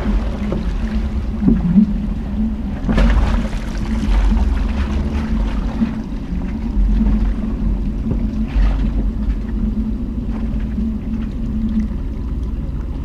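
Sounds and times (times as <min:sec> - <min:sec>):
engine drone: 0:00.0 - 0:13.0
low rumble: 0:00.0 - 0:13.0.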